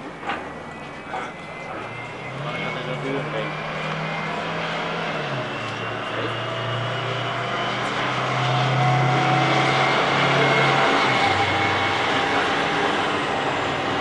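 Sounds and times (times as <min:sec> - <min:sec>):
fire truck driving past: 0:00.0 - 0:14.0.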